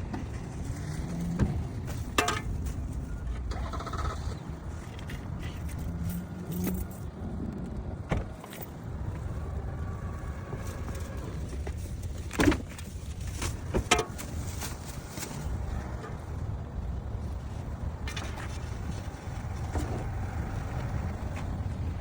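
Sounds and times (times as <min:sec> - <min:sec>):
car rumble: 0:00.0 - 0:22.0.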